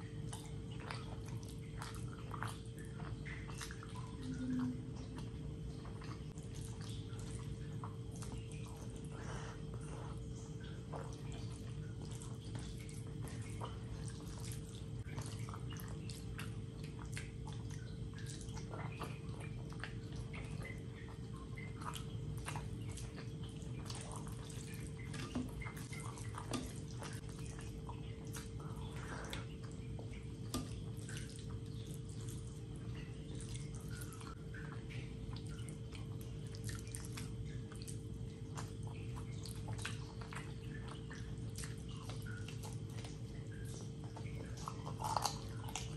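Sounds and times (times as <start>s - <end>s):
chewing: 0.0s - 45.9s
steady low hum: 0.0s - 45.9s.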